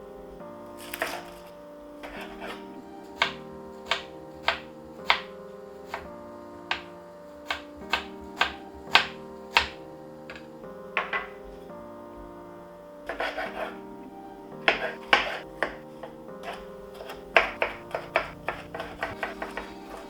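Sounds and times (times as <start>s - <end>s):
music of held chords: 0.0s - 20.0s.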